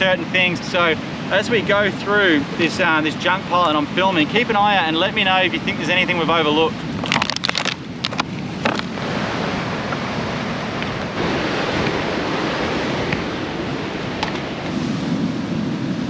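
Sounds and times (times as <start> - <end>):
ocean surf on shore: 0.0 - 16.0
wind buffeting microphone: 0.0 - 16.0.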